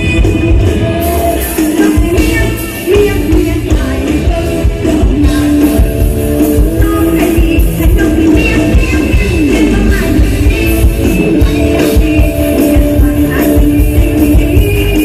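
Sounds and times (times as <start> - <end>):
driving drum and bass beat: 0.0 - 15.0.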